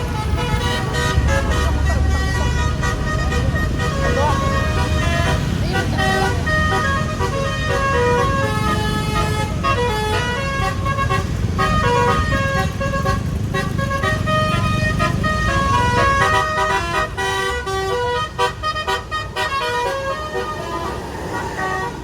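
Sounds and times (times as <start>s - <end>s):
engine and road rumble: 0.0s - 22.0s
multi-tone bus horn melody: 0.0s - 22.0s.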